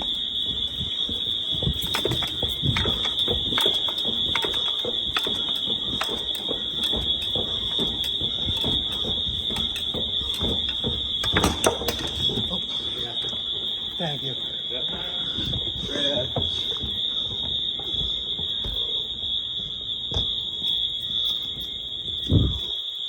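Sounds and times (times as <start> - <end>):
steady high-pitched alarm tone: 0.0 - 23.0.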